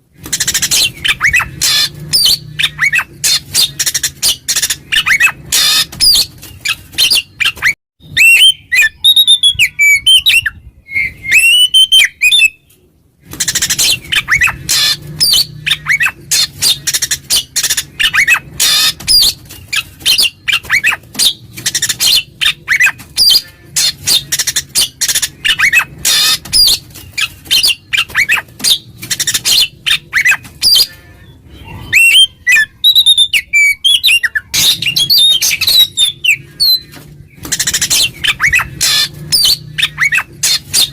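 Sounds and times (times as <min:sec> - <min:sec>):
bird singing: 0:00.4 - 0:12.7, 0:13.4 - 0:40.9.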